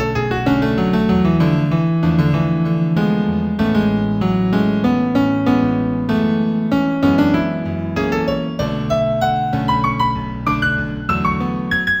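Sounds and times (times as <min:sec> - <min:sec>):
new-age piano piece: 0:00.0 - 0:12.0.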